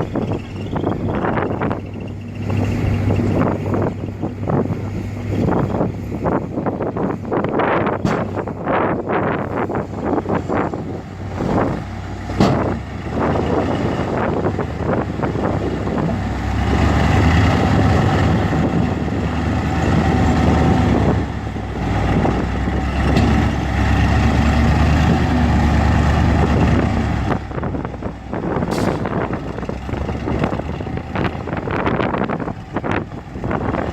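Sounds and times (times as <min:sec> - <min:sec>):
heavy diesel engine under load: 0:00.0 - 0:33.9.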